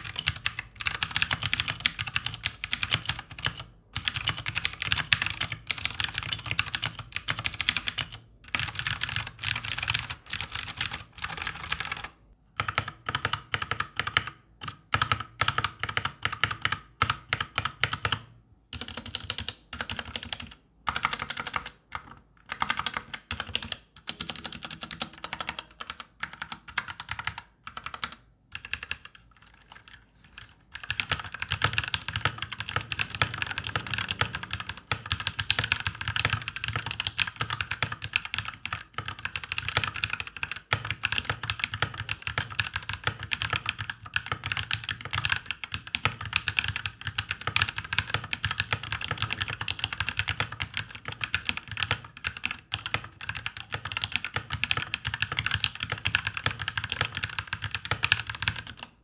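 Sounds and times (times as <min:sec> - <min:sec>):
mechanical keyboard typing: 0:00.0 - 0:59.0.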